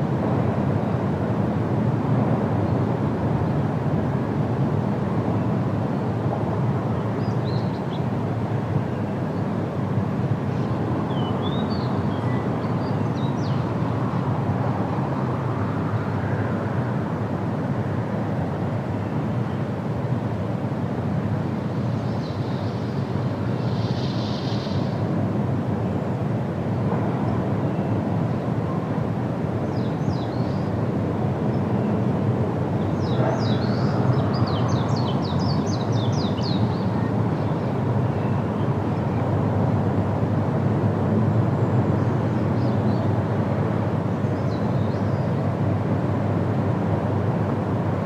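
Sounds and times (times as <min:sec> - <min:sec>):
wind rushing through trees: 0:00.0 - 0:48.0.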